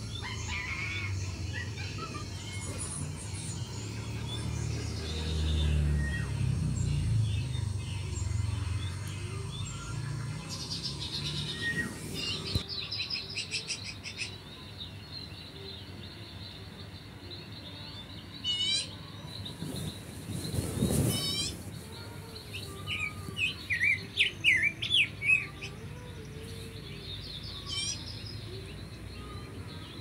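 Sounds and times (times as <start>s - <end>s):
small birds chirping and trilling: 0.0s - 30.0s.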